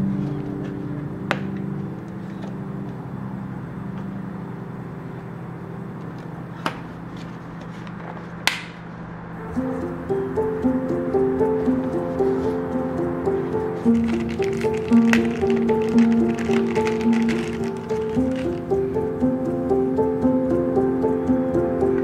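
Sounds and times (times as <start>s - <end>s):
soft background music: 0.0s - 7.6s, 9.1s - 22.0s.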